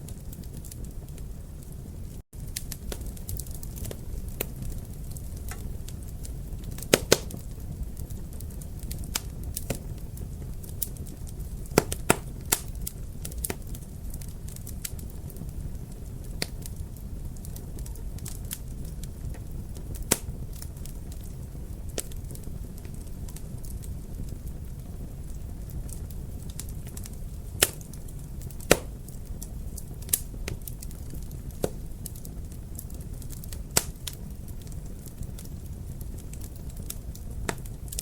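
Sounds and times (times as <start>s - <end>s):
sharp fire pops: 0.0s - 38.0s
wood fire crackling: 0.0s - 38.0s.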